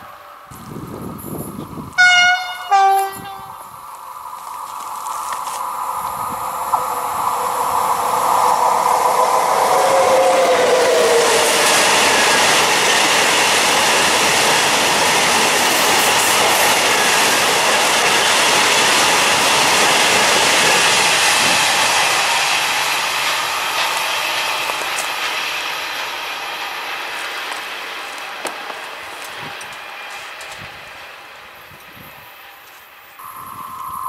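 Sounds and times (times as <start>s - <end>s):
falling tone of passing train: 0.0s - 34.0s
train wheels rumbling and clattering: 4.3s - 33.2s.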